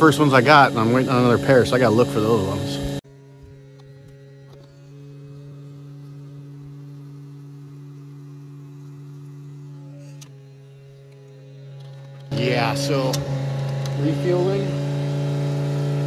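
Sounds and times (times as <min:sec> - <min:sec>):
electric pump humming: 0:00.0 - 0:16.0.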